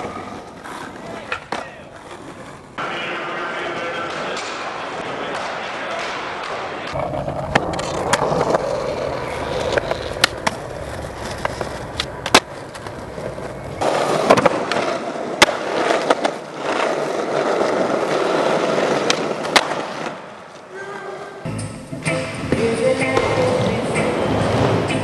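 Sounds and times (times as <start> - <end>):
skateboard clacking on ground: 0.0 - 20.9
skateboard wheels rolling on concrete: 0.0 - 25.0.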